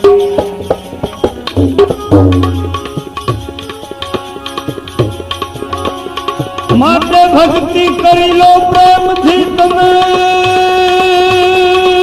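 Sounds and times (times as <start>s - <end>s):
hand drum strokes: 0.0s - 12.0s
sustained melodic accompaniment: 0.0s - 12.0s.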